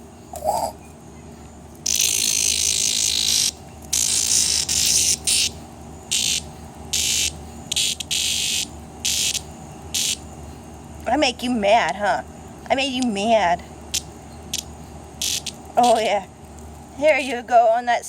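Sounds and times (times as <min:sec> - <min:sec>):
cicada distress buzzing: 0:00.0 - 0:00.8, 0:01.8 - 0:17.5.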